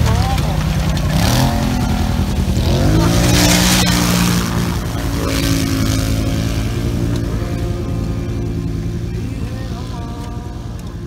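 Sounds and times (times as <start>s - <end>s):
water spray hissing: 0.0s - 10.9s
quad engine revving: 0.0s - 11.0s.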